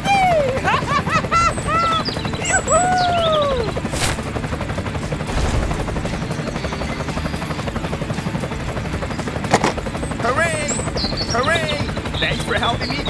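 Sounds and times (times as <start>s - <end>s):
small motor rattling: 0.0s - 13.0s.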